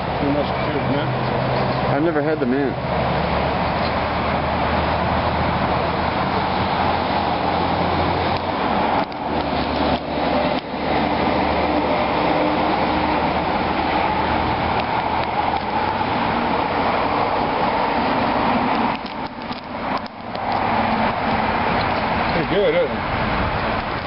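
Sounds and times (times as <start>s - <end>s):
traffic and engine noise: 0.0s - 24.0s.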